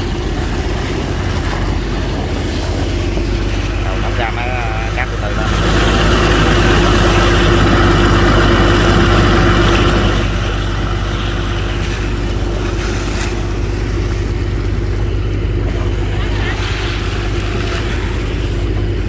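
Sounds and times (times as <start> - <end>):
pump engine running: 0.0 - 19.0.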